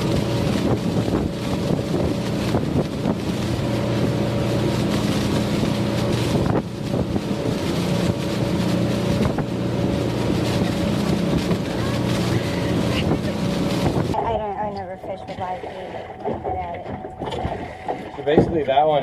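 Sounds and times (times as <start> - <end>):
outboard motors droning: 0.0 - 19.0
wind buffeting microphone: 0.0 - 19.0.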